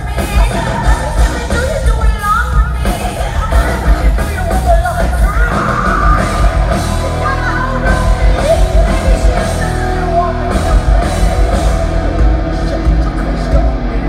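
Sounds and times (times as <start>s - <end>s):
distorted electric guitar: 0.0s - 14.0s
drums: 0.0s - 14.0s
heavy metal band playing live: 0.0s - 14.0s
person singing: 0.0s - 14.0s.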